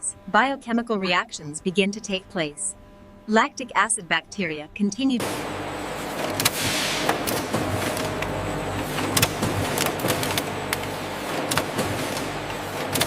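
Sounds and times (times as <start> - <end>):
factory machinery hum: 0.0 - 13.0.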